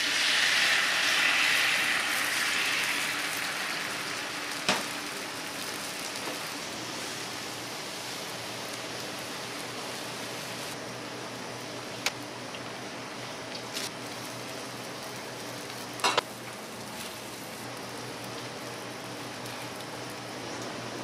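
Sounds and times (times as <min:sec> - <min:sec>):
food sizzling on a griddle: 0:00.0 - 0:10.8, 0:13.7 - 0:21.0.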